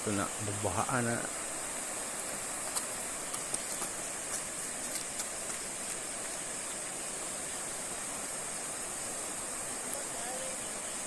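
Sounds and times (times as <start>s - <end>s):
flowing river water: 0.0s - 11.0s
high-pitched hiss: 0.0s - 11.0s.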